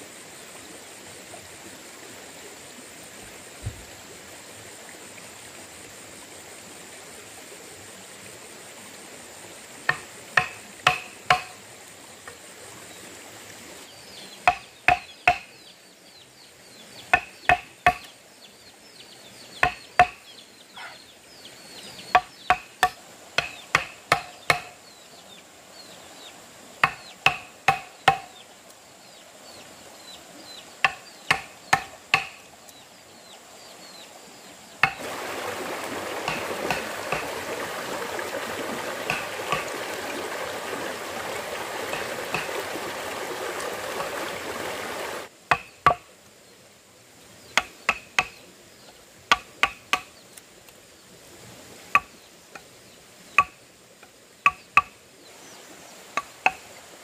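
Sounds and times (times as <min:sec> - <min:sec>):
rush of running water: 0:00.0 - 0:57.0.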